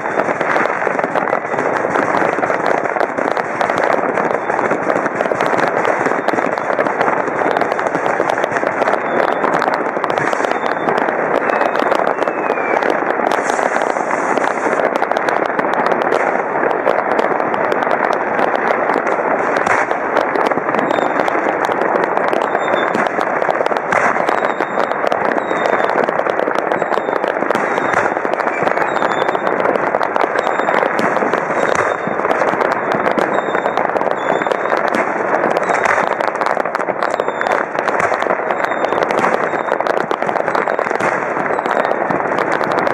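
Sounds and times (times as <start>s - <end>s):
firework bangs: 0.0s - 42.9s
fireworks crackling and popping: 0.0s - 42.9s.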